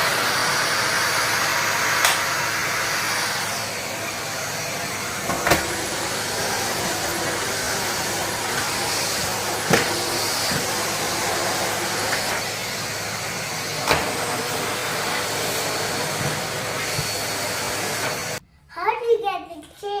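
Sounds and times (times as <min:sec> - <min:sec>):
vacuum cleaner running: 0:00.0 - 0:18.4.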